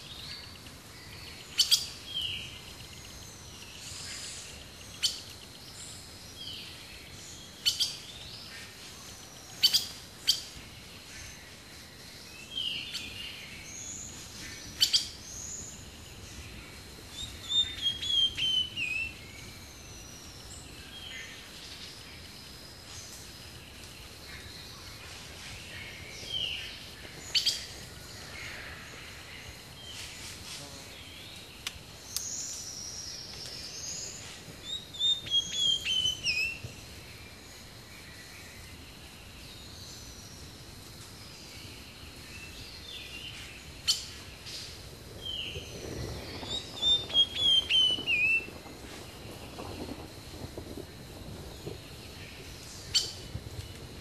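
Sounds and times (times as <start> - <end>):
birds calling and singing: 0.0 - 54.0
steady background hiss: 0.0 - 54.0.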